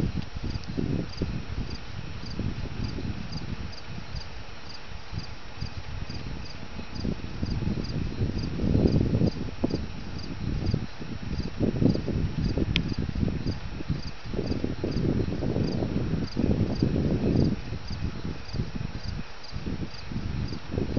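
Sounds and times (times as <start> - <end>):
crickets chirping: 0.4 - 20.9.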